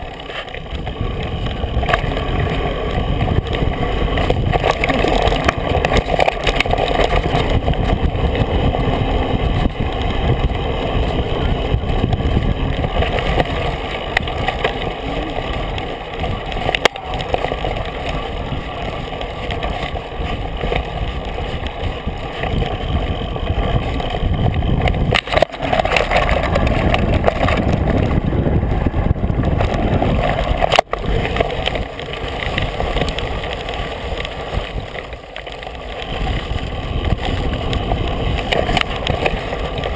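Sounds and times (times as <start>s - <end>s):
mountain bike rumbling over dirt trail: 0.0s - 39.9s.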